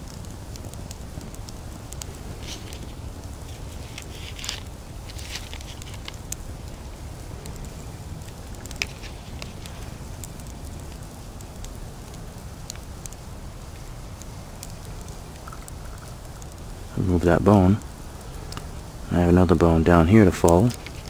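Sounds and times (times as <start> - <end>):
campfire crackling and popping: 0.0 - 21.0
steady low rumble: 0.0 - 21.0.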